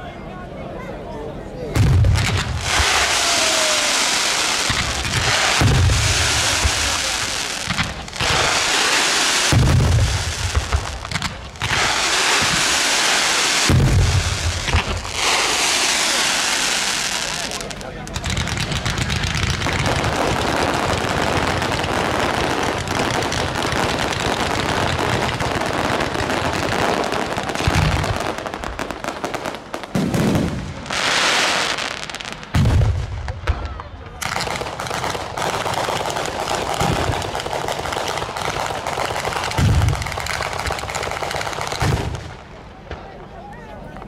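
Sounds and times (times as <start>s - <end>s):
fireworks booms: 1.7s - 43.2s
fireworks crackling: 1.8s - 44.0s.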